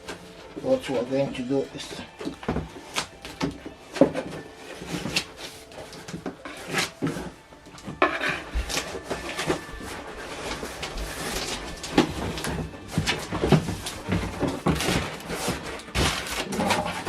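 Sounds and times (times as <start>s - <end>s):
cardboard packaging rubbing and scraping: 0.0s - 17.0s.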